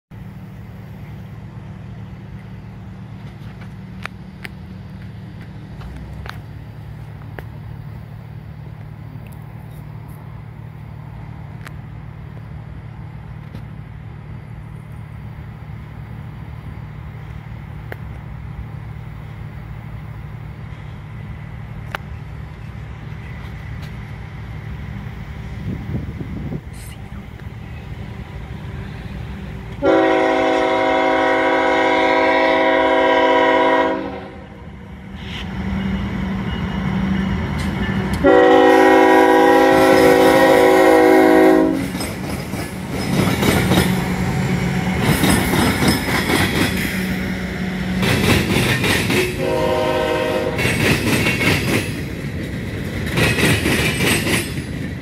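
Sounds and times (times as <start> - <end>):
freight train diesel rumble: 0.1 - 55.0.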